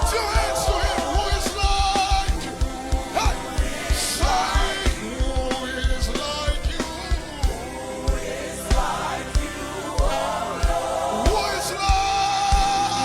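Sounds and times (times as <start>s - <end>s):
band playing gospel music: 0.0s - 13.0s
voices singing: 0.0s - 13.0s.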